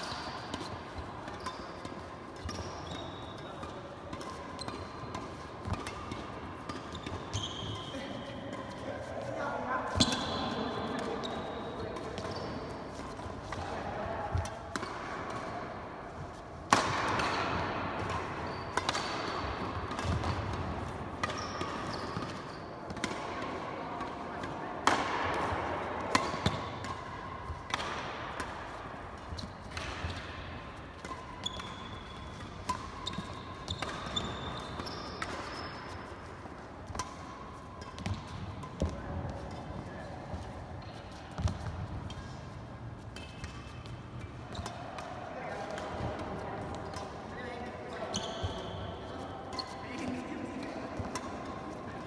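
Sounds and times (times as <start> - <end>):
rackets striking shuttlecock: 0.0 - 9.1, 9.9 - 52.0
shoes squeaking on court floor: 0.0 - 23.6, 28.5 - 52.0.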